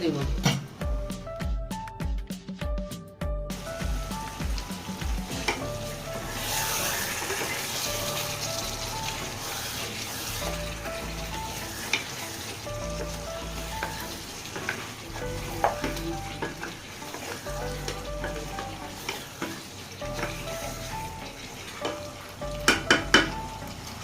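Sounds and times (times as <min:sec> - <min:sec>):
meat sizzling in a pot: 0:03.5 - 0:24.0.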